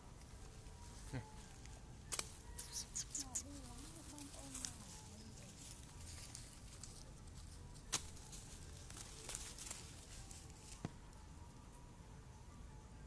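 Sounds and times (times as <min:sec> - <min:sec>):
dry leaves and twigs crackling underfoot: 0:00.1 - 0:11.3.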